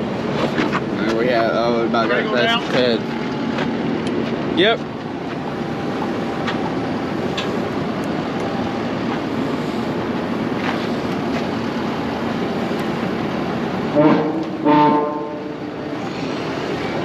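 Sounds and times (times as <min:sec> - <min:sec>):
farm machinery engine running: 0:00.0 - 0:17.0.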